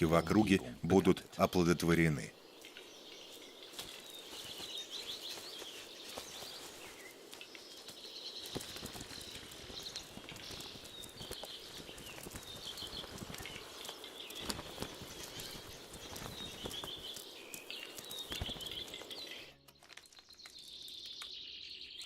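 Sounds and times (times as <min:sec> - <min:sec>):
songbirds trilling: 0:00.0 - 0:22.0.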